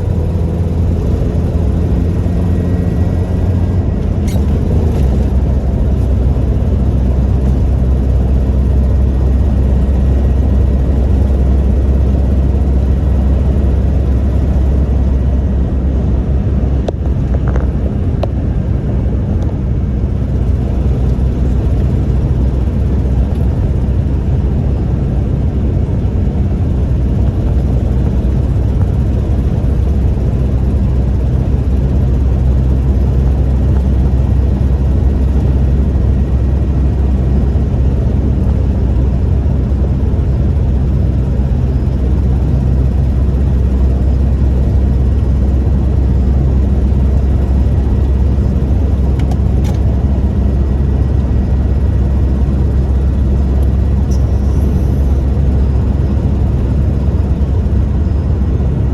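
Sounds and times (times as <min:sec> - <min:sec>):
pickup truck engine drone: 0:00.0 - 0:58.9
road noise: 0:00.0 - 0:58.9.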